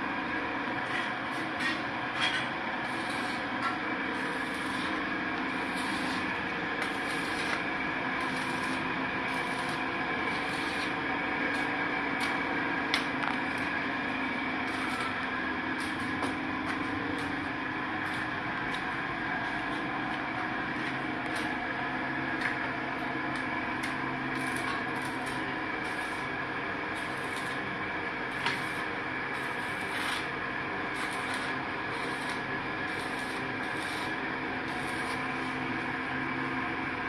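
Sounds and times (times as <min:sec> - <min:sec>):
heat pump mechanical hum: 0:00.0 - 0:37.0.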